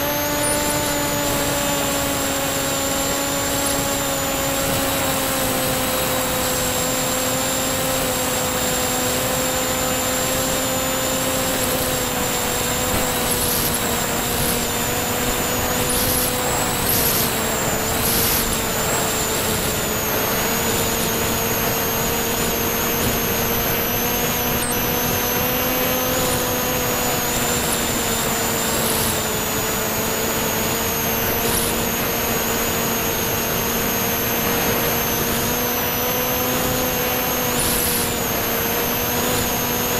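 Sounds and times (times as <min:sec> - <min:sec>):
model plane motor droning: 0:00.0 - 0:39.9
wind rushing over camera: 0:07.8 - 0:39.9.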